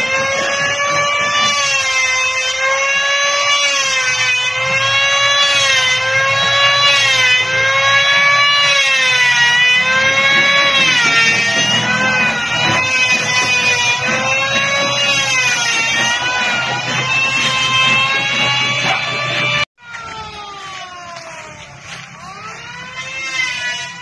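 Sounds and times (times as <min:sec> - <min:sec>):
circular saw cutting wood: 0:00.0 - 0:20.8, 0:22.2 - 0:24.0.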